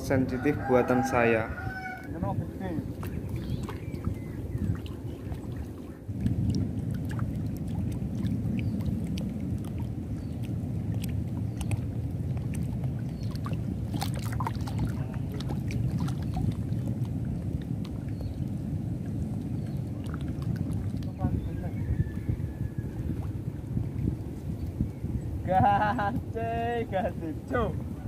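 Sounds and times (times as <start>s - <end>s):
rippling water: 0.0s - 28.0s.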